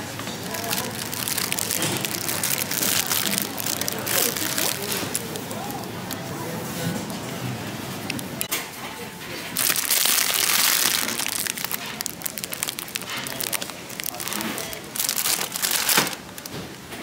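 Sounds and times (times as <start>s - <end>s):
plastic wrapper crinkling: 0.2s - 7.1s, 9.6s - 16.6s.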